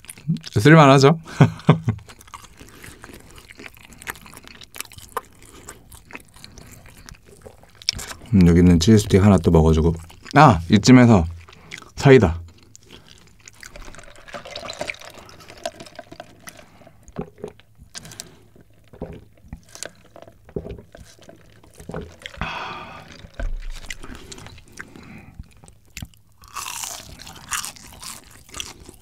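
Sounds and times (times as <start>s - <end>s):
chewing and crunching: 0.0s - 29.0s.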